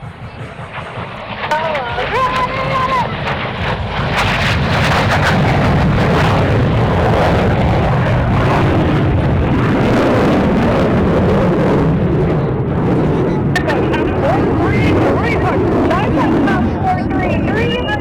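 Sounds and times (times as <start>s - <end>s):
jet aircraft roar: 0.0s - 18.0s.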